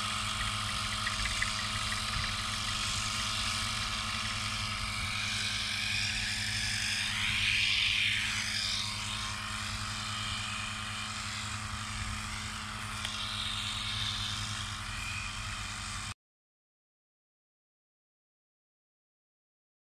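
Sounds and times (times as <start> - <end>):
small motor whirring: 0.0 - 16.2.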